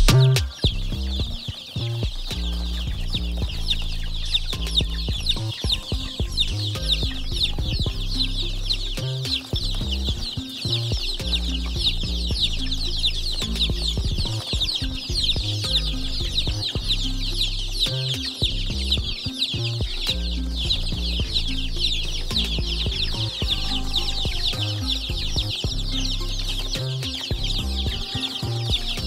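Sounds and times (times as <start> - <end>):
background music with bass: 0.0 - 29.0
chicks peeping: 0.0 - 29.0.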